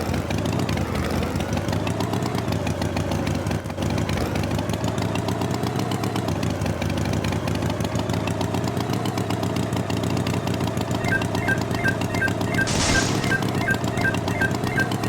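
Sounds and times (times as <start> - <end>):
tractor engine running: 0.3 - 15.0.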